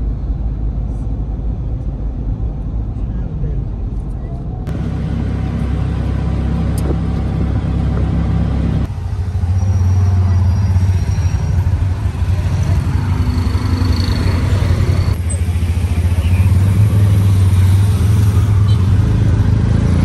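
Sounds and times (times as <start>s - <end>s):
auto-rickshaw engine drone: 0.0s - 20.0s
traffic: 0.0s - 20.0s.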